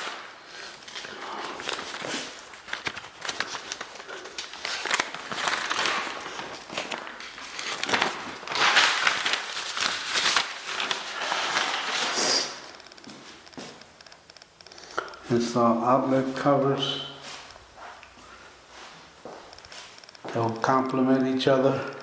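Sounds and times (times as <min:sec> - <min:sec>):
footsteps crackling: 0:00.0 - 0:15.6, 0:17.0 - 0:21.0.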